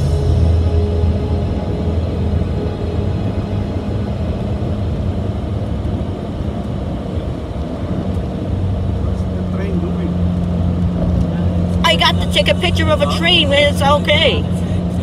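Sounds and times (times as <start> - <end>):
car road and engine hum: 0.0 - 15.0.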